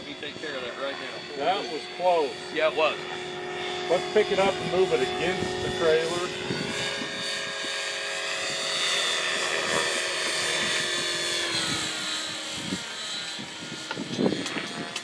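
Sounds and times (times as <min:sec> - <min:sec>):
helicopter whine: 0:00.0 - 0:15.0.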